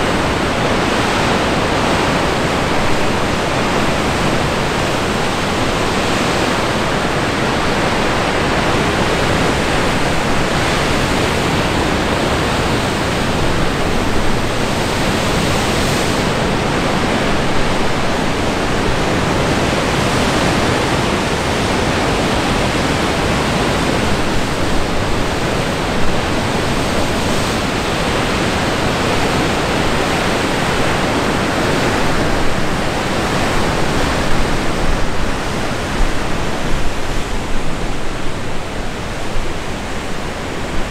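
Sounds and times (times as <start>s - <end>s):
ocean surf breaking on rocks: 0.0s - 40.9s
wind on microphone: 0.0s - 40.9s.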